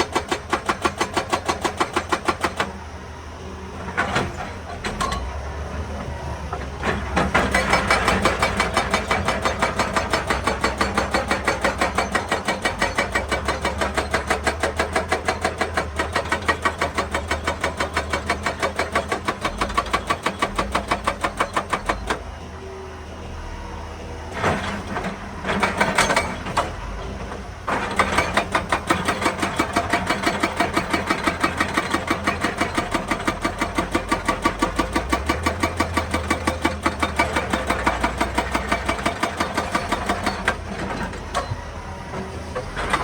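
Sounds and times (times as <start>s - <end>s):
hydraulic breaker pounding rock: 0.0s - 2.8s, 3.8s - 22.3s, 24.3s - 43.0s
excavator engine running: 0.0s - 43.0s.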